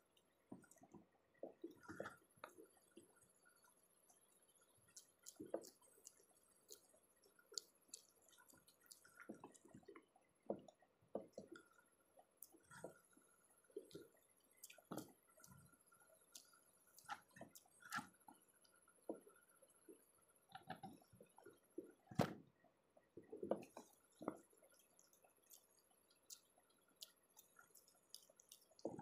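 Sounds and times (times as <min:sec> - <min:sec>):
chewing: 0:00.6 - 0:19.4, 0:23.3 - 0:29.0.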